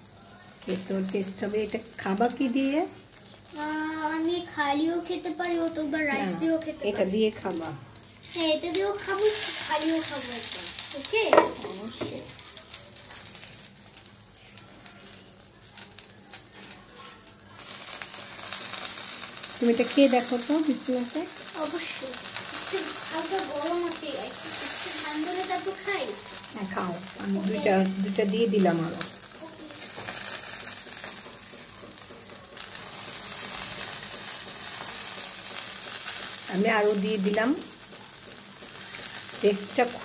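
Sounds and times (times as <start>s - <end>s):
meat sizzling on a grill: 0.0s - 40.0s.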